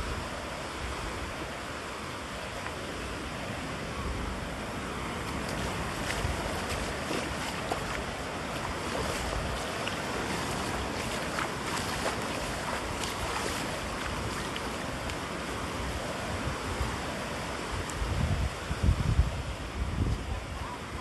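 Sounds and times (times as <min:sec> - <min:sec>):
gentle surf on sandy beach: 0:00.0 - 0:21.0.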